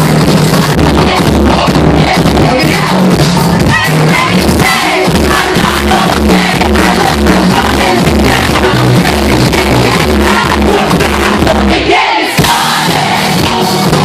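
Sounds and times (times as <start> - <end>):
heavy bass beat: 0.0 - 14.0
singer's amplified vocal: 0.7 - 14.0.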